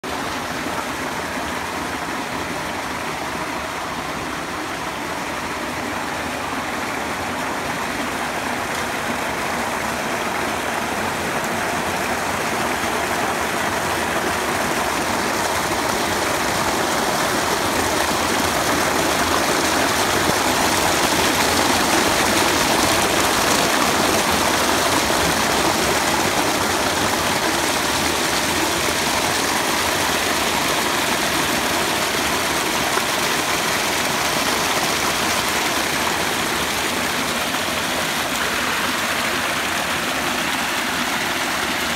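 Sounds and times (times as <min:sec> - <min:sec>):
water pouring over rocks: 0:00.1 - 0:41.9.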